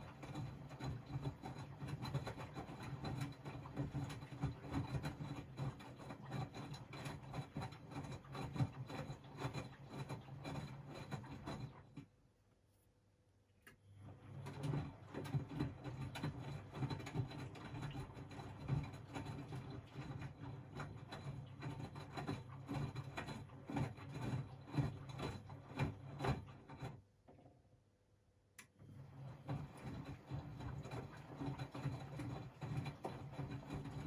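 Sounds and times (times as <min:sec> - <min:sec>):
washing machine drum turning: 0:00.0 - 0:12.0, 0:14.0 - 0:27.5, 0:29.0 - 0:34.0.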